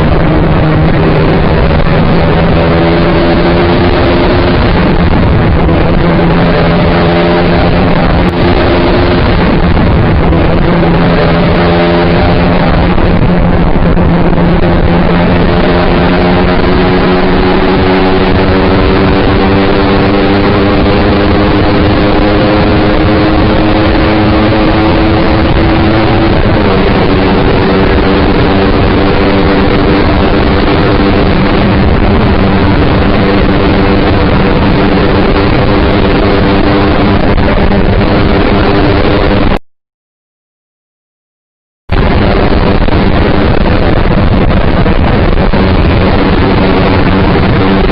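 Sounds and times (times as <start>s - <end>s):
motorcycle engine at speed: 0.0s - 39.6s, 41.8s - 47.9s
wind rush on microphone: 0.0s - 39.6s, 41.9s - 47.9s.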